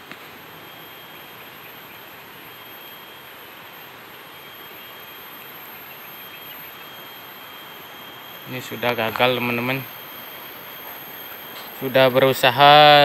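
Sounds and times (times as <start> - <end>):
outdoor hiss: 0.0 - 13.0
faint high-pitched tone: 0.4 - 13.0.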